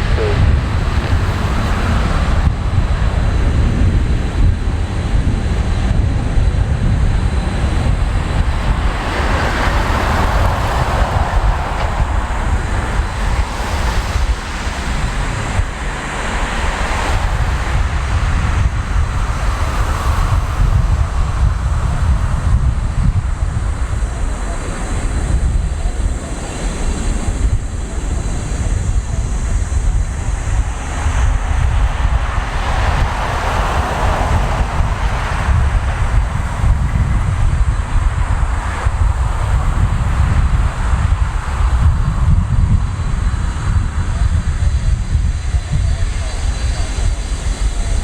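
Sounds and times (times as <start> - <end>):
jet engines roaring at takeoff: 0.0 - 48.0
wind buffeting microphone: 0.0 - 48.0.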